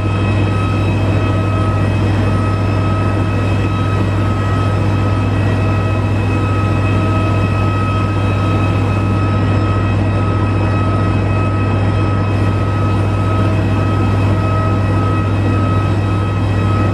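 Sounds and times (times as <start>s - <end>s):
auxiliary power unit drone: 0.0s - 16.9s.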